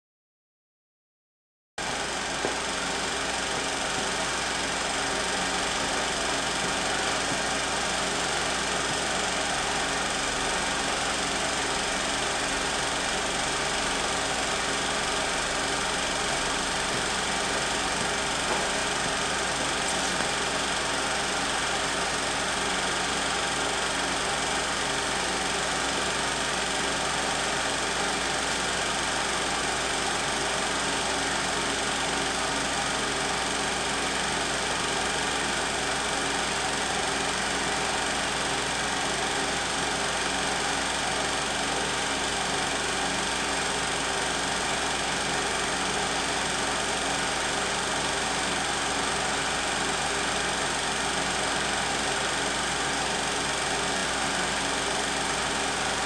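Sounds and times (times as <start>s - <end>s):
film projector whirring: 1.8s - 56.0s.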